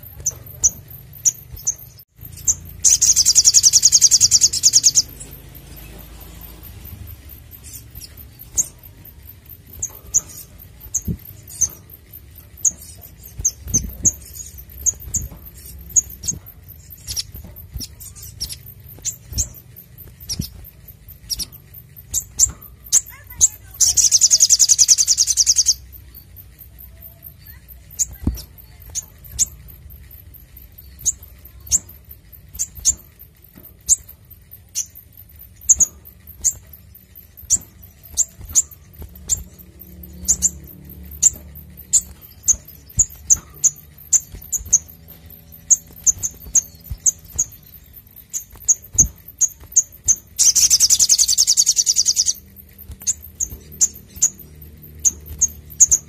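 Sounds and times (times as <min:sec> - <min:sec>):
bird rapid high trill: 0:00.0 - 0:33.2, 0:33.9 - 0:56.0
bird chipping calls: 0:00.0 - 0:56.0.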